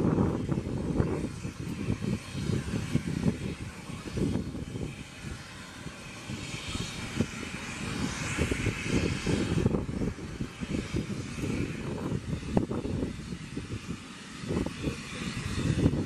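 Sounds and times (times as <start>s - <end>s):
distant jet engines hissing: 0.0s - 16.0s.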